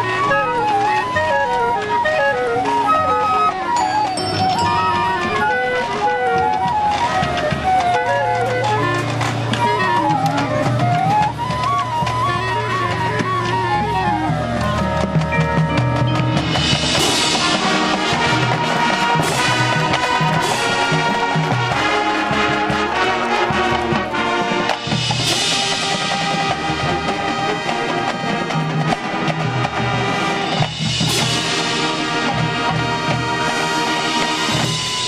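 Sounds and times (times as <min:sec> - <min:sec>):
brass melody: 0:00.0 - 0:35.0
mallet and timpani percussion: 0:00.0 - 0:35.0
marching drums: 0:00.0 - 0:35.0.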